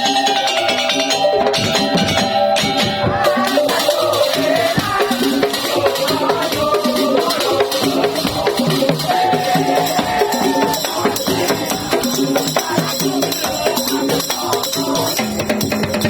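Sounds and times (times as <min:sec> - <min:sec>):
pitched melody line: 0:00.0 - 0:15.5
drums: 0:00.0 - 0:16.0
wooden percussion: 0:00.0 - 0:16.0
shakers: 0:01.4 - 0:16.0.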